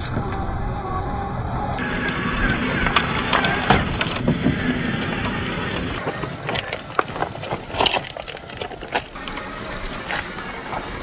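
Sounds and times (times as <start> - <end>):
wind noise on microphone: 0.0 - 11.0
steady rushing noise: 1.8 - 11.0
stones clicking under tyres: 1.8 - 11.0.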